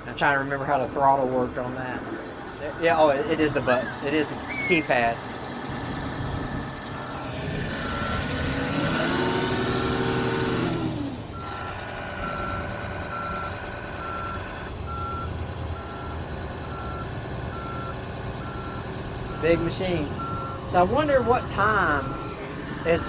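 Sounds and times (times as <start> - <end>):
diesel engine revving: 0.0 - 23.0
backup alarm beeping: 1.7 - 10.6, 11.4 - 23.0.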